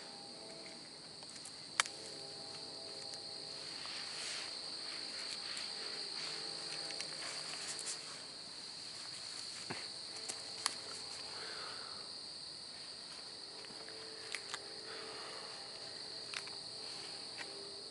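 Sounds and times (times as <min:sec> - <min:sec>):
crickets chirping: 0:00.0 - 0:17.9.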